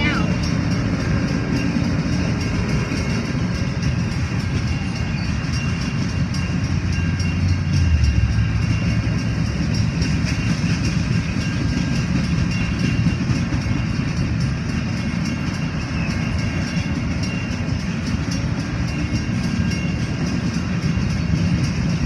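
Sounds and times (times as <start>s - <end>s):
crossing bell striking rapidly: 0.0s - 22.0s
train wheels rumbling on rail: 0.0s - 22.0s.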